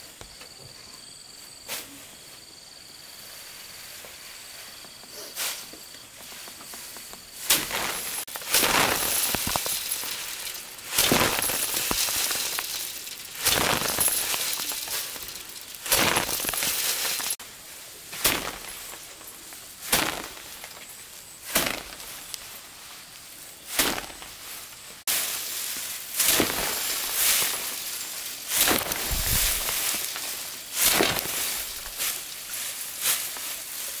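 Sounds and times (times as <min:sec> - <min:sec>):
steady hiss: 0:01.4 - 0:34.0
rice stalks crunching rustle: 0:03.2 - 0:34.0.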